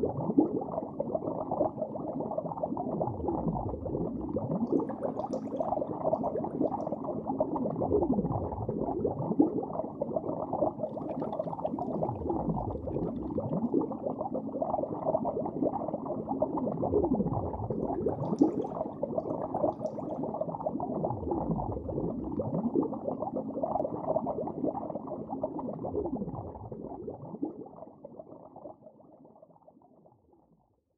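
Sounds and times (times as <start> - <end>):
underwater gurgling and bubbling: 0.0 - 28.9.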